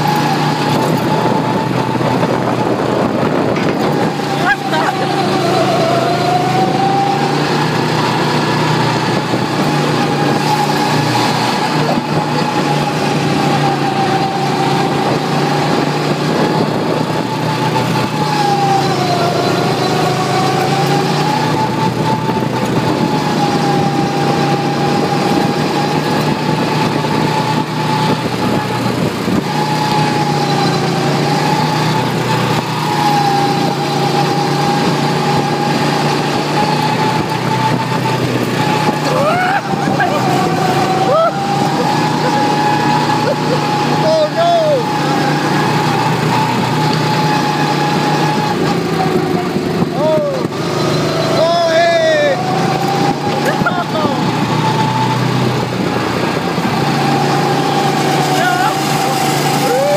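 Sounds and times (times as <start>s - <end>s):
small engine whining: 0.0s - 59.9s.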